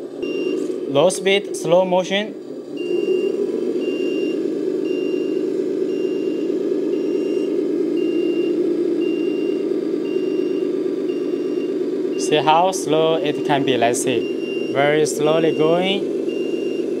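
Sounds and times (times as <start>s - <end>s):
toy truck motor droning hum: 0.0s - 17.0s.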